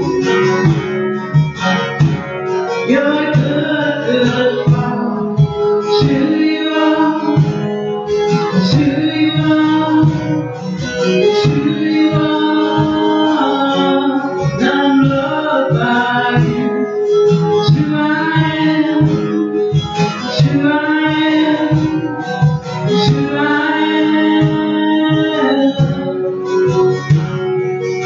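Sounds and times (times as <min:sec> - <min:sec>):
person singing: 0:00.0 - 0:02.0, 0:02.6 - 0:27.4
acoustic guitar: 0:00.0 - 0:28.0.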